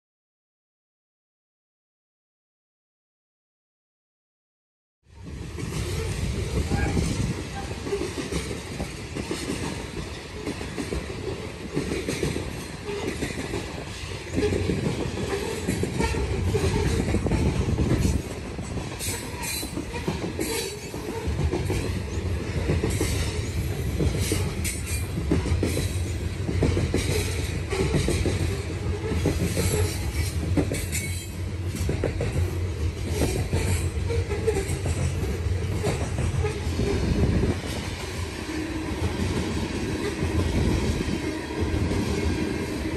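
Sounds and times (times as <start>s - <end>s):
freight train rumbling and rattling: 5.1s - 42.9s.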